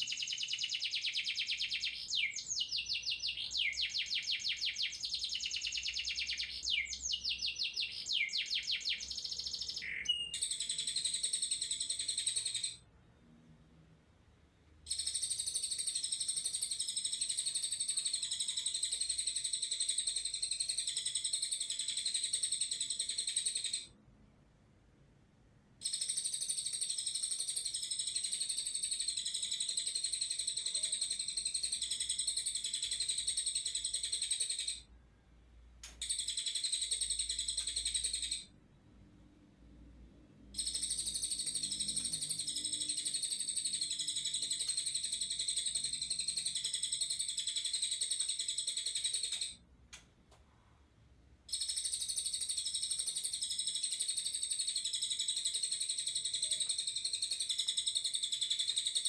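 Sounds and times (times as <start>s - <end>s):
bird twittering rapidly: 0.0s - 12.8s, 14.9s - 24.0s, 25.8s - 34.9s, 35.9s - 38.6s, 40.5s - 49.6s, 51.5s - 59.0s.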